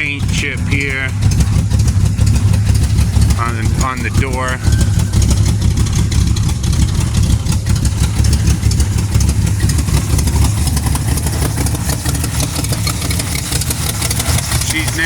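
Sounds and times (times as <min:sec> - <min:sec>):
vee eight engine idling loud: 0:00.0 - 0:15.0.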